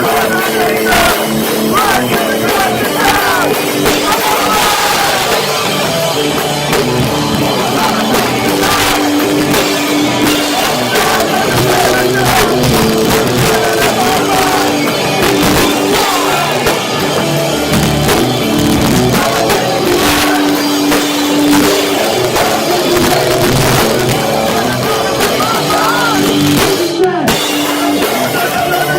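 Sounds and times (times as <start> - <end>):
distorted guitars: 0.0 - 28.9
drum hits: 0.0 - 28.9
rock band playing live: 0.0 - 28.9.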